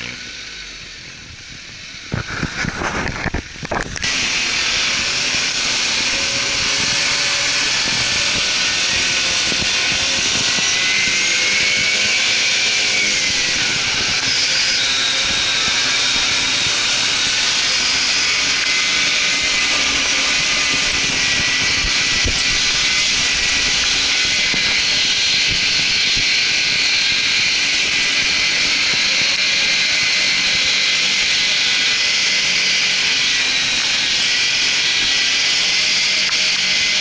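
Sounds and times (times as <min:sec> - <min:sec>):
car engine droning: 0:00.0 - 0:37.0.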